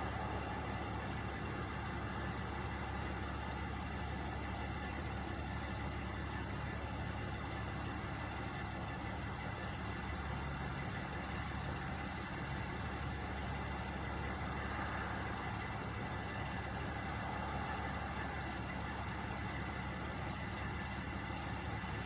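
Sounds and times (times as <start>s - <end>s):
truck engines idling: 0.0s - 22.0s.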